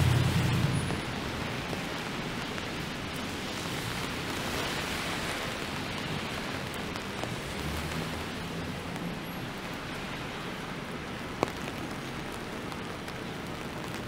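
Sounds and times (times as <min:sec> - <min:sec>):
car tyres hissing on wet road: 0:00.0 - 0:14.0
rain on wet street: 0:00.0 - 0:14.0.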